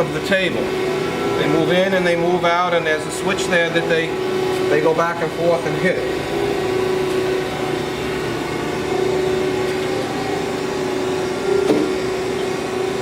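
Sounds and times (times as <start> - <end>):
grinder mechanical hum: 0.0 - 13.0.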